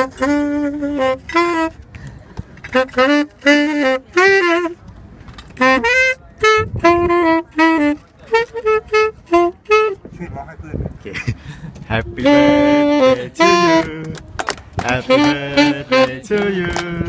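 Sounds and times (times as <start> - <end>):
solo wind instrument melody: 0.0 - 2.0, 2.6 - 10.1, 11.9 - 17.0.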